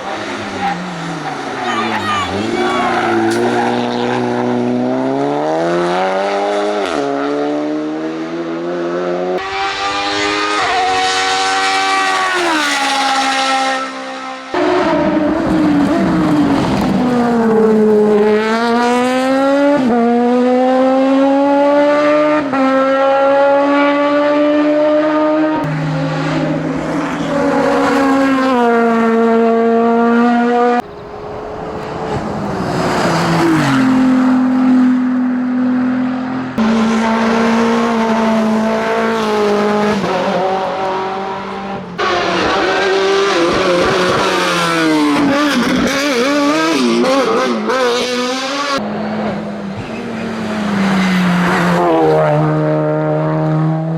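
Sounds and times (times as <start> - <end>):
racing car engines revving: 0.0 - 53.9.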